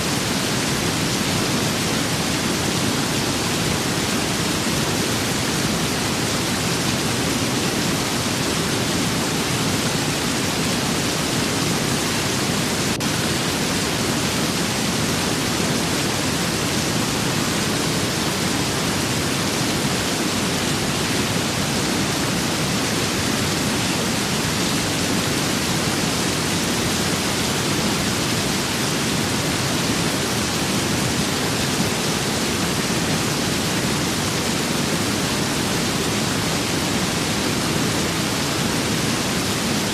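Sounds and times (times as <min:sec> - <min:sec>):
rain and wind hiss: 0:00.0 - 0:39.9.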